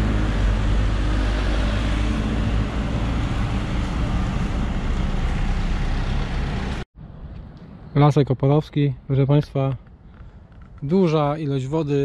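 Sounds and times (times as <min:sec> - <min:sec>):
outdoor noise: 0:00.0 - 0:12.0
vehicle engine rumbling: 0:00.0 - 0:12.0.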